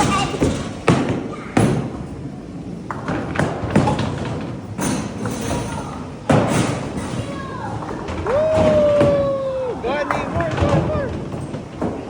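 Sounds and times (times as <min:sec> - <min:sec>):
distant voices: 0:00.0 - 0:12.0.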